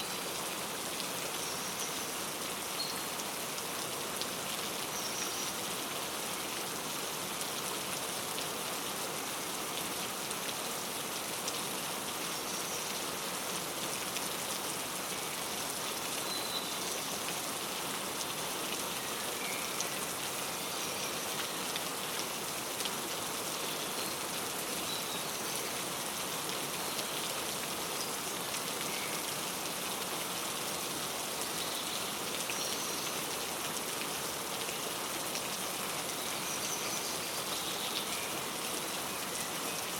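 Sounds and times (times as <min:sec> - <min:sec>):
rain pattering: 0:05.6 - 0:39.9.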